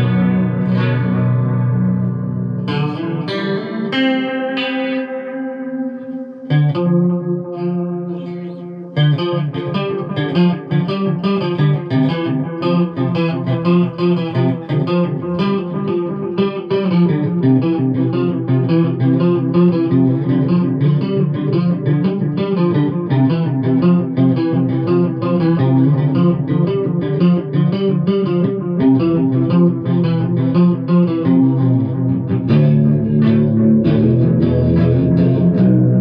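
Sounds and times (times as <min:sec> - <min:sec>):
electric guitar with chorus and overdrive: 0:00.0 - 0:36.0.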